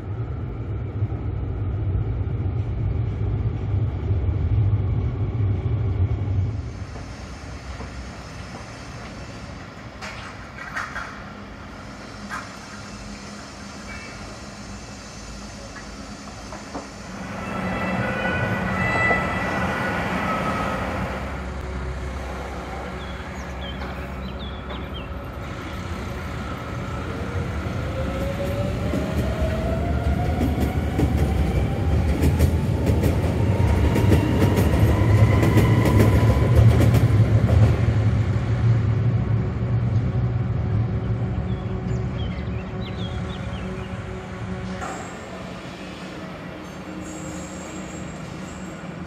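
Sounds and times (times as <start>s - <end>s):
wheels rumbling on rails: 0.0s - 49.0s.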